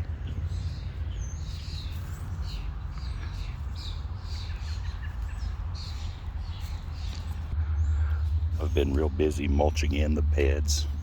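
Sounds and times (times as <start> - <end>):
birds chirping: 0.0 - 11.0
low rumble: 0.0 - 11.0.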